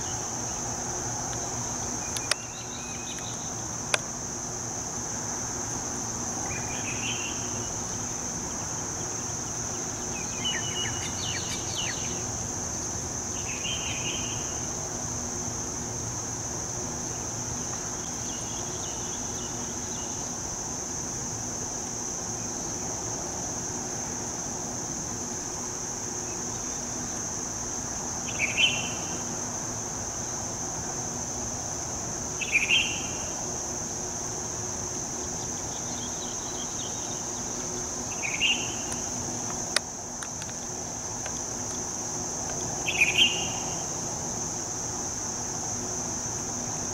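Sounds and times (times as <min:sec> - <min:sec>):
high-pitched insect buzz: 0:00.0 - 0:46.9
insect chirps: 0:00.0 - 0:46.9.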